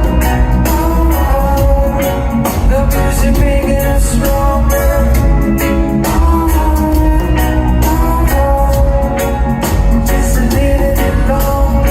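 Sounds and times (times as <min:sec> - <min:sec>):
song with guitar drums and vocals: 0:00.0 - 0:11.9.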